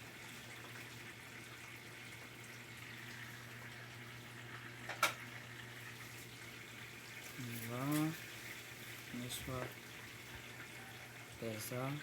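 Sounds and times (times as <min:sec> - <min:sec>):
water running into washing machine: 0:00.0 - 0:12.0.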